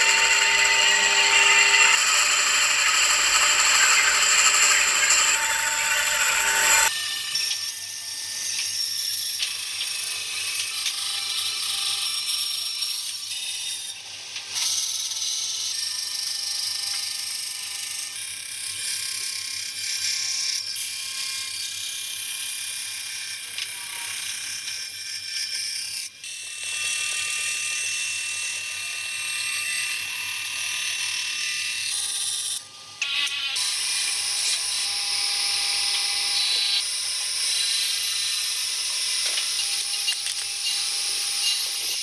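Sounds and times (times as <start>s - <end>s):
band saw cutting wood: 0.0s - 42.0s.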